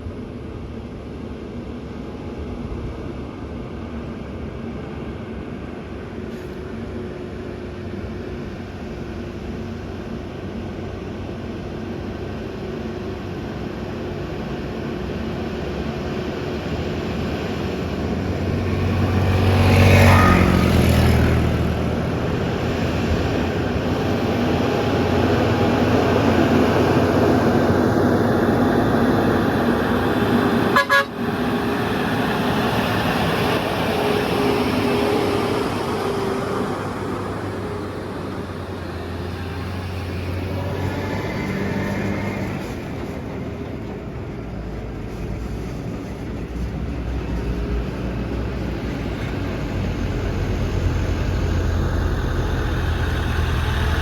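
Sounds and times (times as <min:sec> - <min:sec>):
truck diesel engine labouring: 0:06.4 - 0:54.0.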